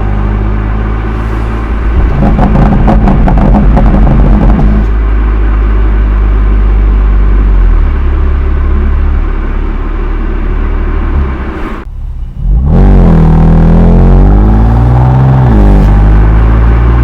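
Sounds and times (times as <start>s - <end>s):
car engine running with crackle: 0.0s - 17.0s.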